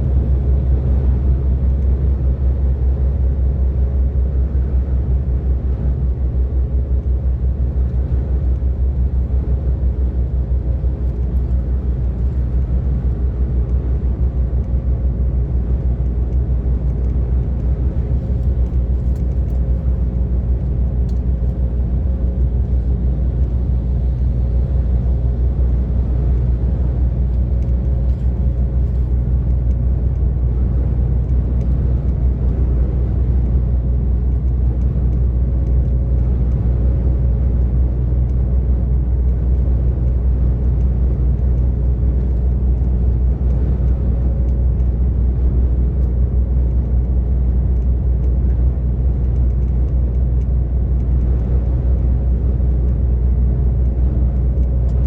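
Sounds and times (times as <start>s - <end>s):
road and tyre noise: 0.0s - 55.0s
truck diesel engine drone: 0.0s - 55.0s.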